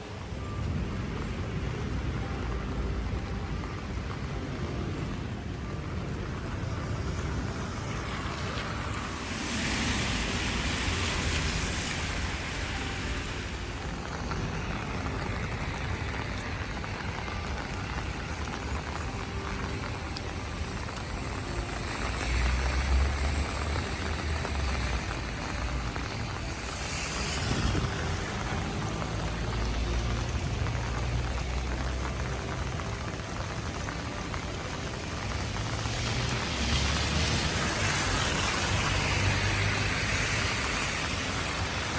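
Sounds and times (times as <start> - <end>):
steady rain: 0.0 - 41.9
tyres hissing on wet road: 0.0 - 41.9.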